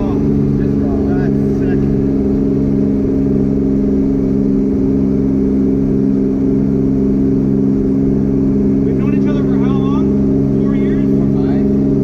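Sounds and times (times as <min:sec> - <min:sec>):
car engine drone from inside: 0:00.0 - 0:12.0.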